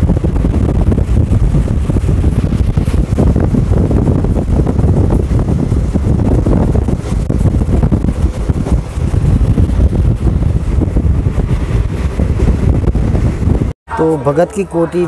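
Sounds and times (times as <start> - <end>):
train rumbling on track: 0.0 - 15.0
wind buffeting microphone: 0.0 - 15.0.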